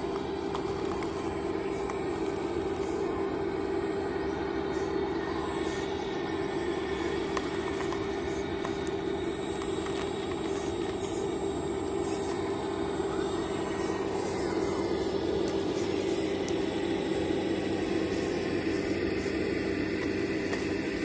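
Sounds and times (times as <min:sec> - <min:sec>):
toy excavator motor droning: 0:00.0 - 0:21.0.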